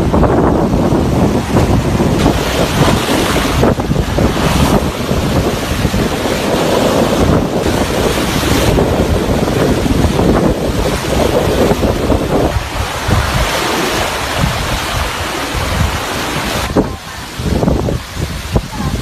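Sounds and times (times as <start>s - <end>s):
surf breaking on sand and rocks: 0.0s - 19.0s
wind buffeting microphone: 0.0s - 19.0s.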